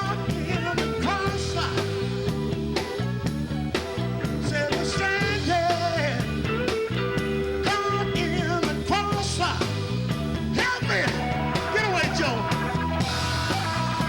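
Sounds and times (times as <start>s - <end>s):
lead vocal singing: 0.0s - 3.1s, 4.0s - 6.4s, 7.6s - 14.0s
bass line: 0.0s - 14.0s
rock band playing: 0.0s - 14.0s.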